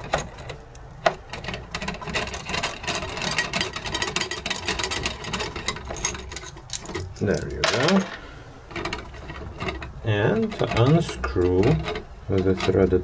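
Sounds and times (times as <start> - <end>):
metal nuts clicking and rattling: 0.0 - 13.0.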